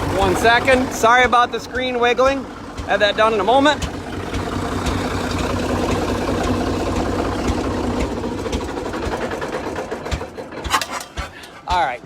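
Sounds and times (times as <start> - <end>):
slow single-cylinder engine beat: 0.0 - 12.0
tractor engine running: 0.0 - 12.0.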